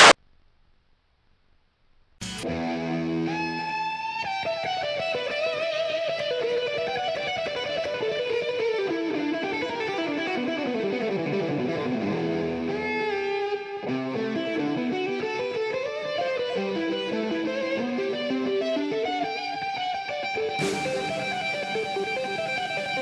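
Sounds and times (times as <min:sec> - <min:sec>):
electric guitar music: 0:02.2 - 0:23.0.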